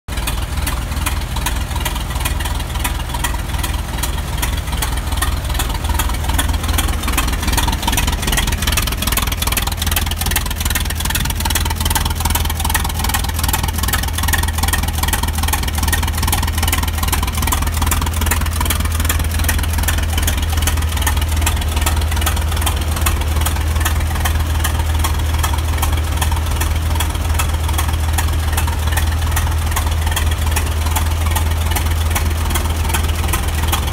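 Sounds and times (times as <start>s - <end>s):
tractor engine idling: 0.1s - 33.9s.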